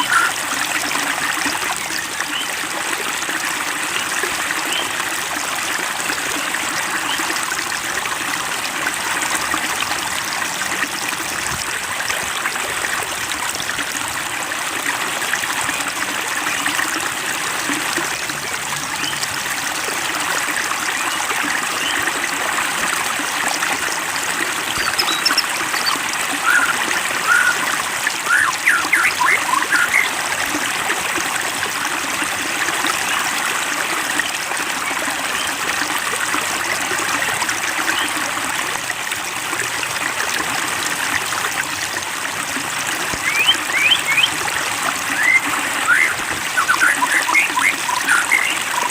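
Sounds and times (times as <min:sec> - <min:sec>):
water trickling and babbling: 0:00.0 - 0:48.9.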